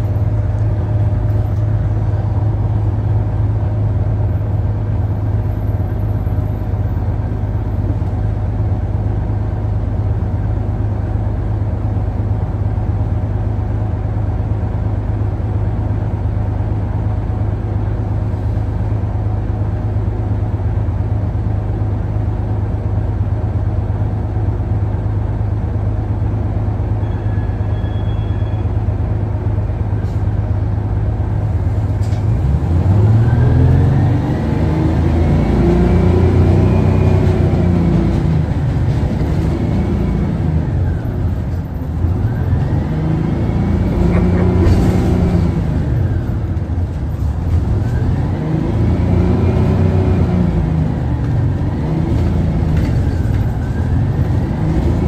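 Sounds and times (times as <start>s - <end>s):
bus engine hum: 0.0s - 55.0s.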